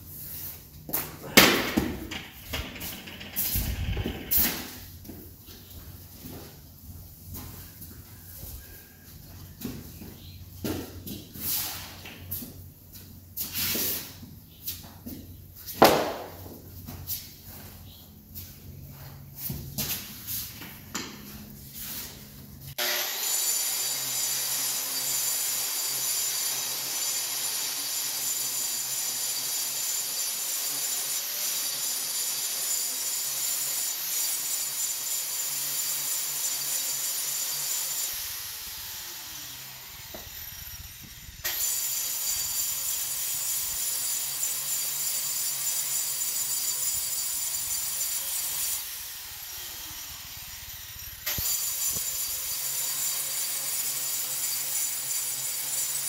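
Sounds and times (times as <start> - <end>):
grinder grinding concrete: 0.1 - 56.0.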